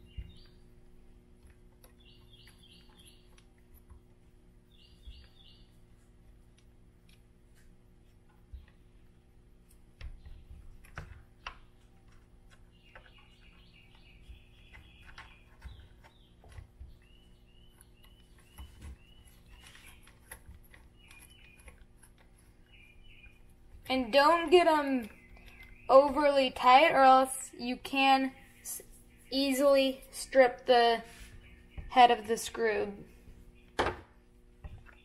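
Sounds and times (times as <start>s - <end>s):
birds chirping: 0.0s - 6.3s, 8.0s - 35.0s.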